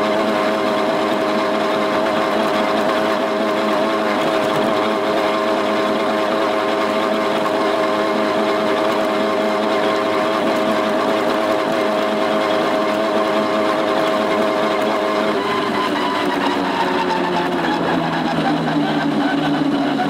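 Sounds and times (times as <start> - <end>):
two-stroke engine buzzing: 0.0 - 20.0.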